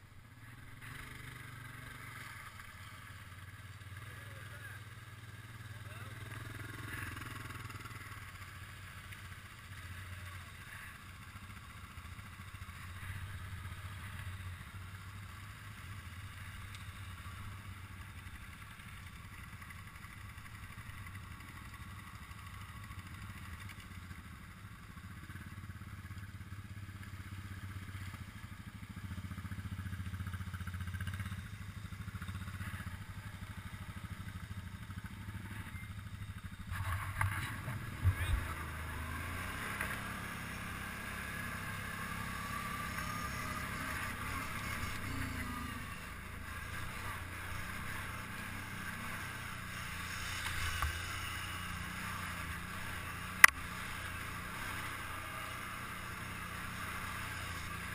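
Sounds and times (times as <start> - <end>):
atv engine idling: 0.0 - 57.9.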